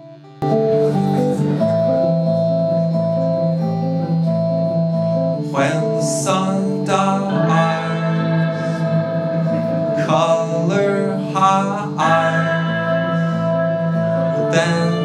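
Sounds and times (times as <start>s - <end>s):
live band playing slow song: 0.4s - 15.0s
wavering sliding melody line: 0.4s - 15.0s.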